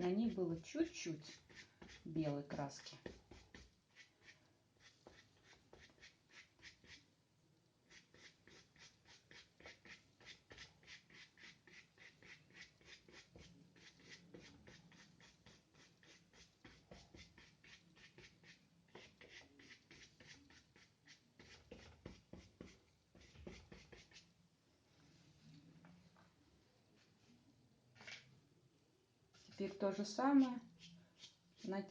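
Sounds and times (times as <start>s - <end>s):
dry paintbrush strokes on paper: 0.2s - 7.1s, 7.8s - 24.3s, 29.3s - 31.9s.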